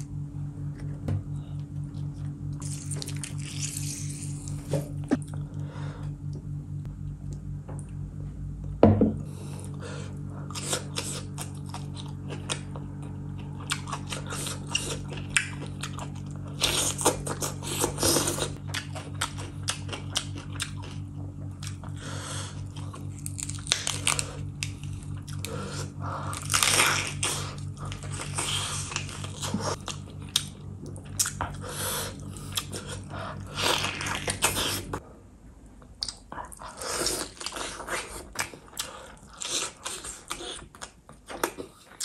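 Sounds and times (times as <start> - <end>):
chewing and crunching food: 0.7 - 8.0, 9.4 - 35.0, 35.7 - 42.0.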